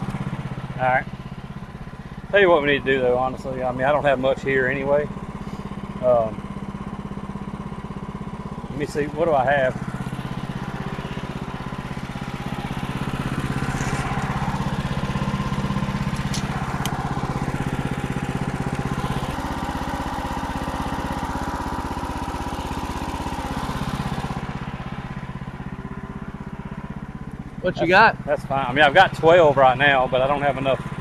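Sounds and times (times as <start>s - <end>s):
sawmill engine throbbing: 0.0s - 31.0s.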